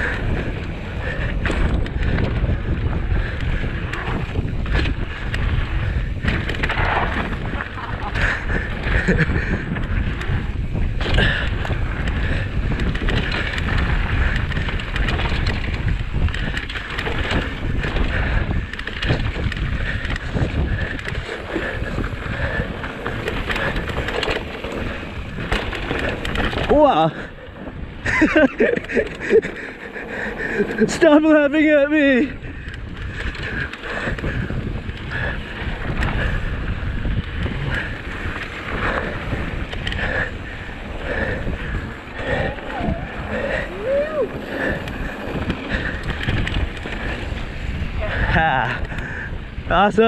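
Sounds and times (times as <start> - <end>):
bike knocking and rattling: 0.0 - 50.0
wind buffeting microphone: 0.0 - 50.0.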